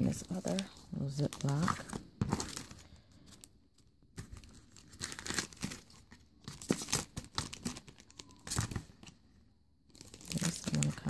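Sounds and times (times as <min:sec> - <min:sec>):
plastic bag crinkling: 0:00.0 - 0:08.9, 0:09.9 - 0:11.0.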